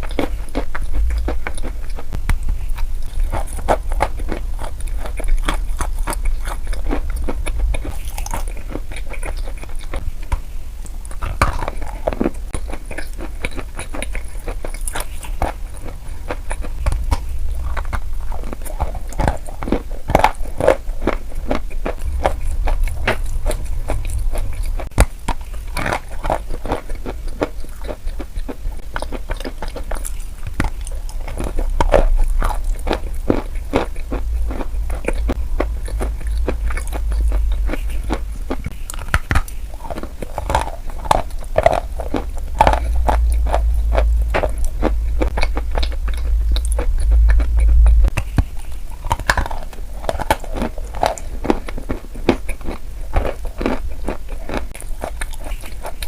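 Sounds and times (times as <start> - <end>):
low rumble: 0.0 - 27.4, 29.6 - 53.6
crisp crunching and crackling: 0.0 - 56.0.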